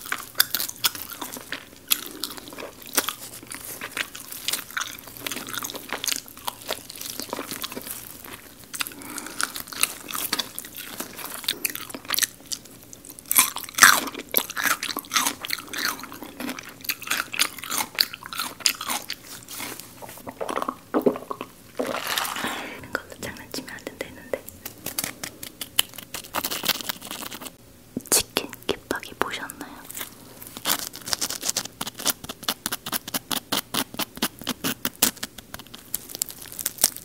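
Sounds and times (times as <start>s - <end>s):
crunching and chewing fried chicken: 0.0s - 27.6s, 28.6s - 37.0s.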